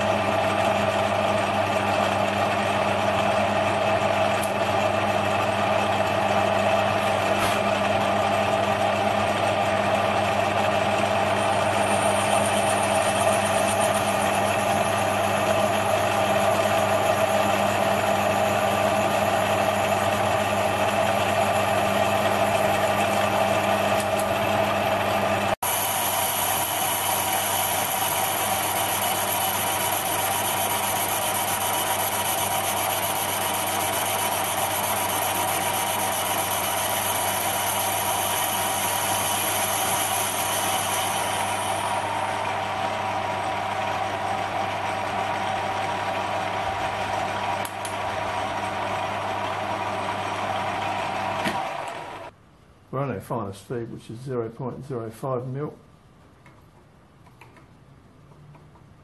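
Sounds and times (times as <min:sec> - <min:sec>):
boring bar cutting brass: 0:00.0 - 0:52.3
metal lathe humming: 0:00.0 - 0:52.4.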